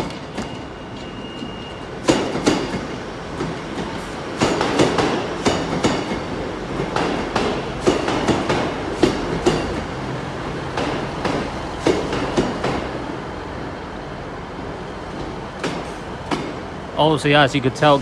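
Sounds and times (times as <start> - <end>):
train wheels clicking over rail joints: 0.0 - 13.2, 15.0 - 16.8
train rumble: 0.0 - 18.0.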